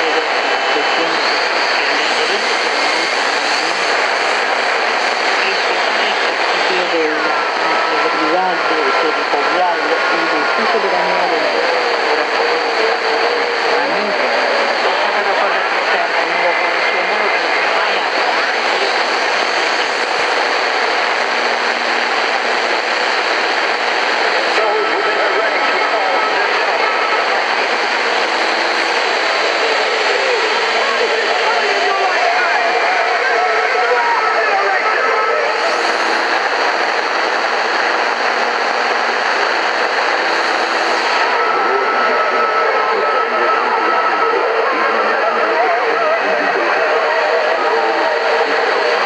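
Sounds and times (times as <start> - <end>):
radio static hiss: 0.0 - 49.0
weak radio signal: 0.0 - 49.0.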